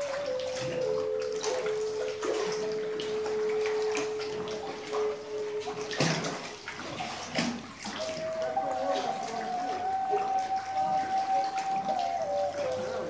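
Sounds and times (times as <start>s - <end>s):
steady held tone: 0.0s - 6.8s, 8.0s - 13.0s
water splashing around a kayak: 0.0s - 13.0s.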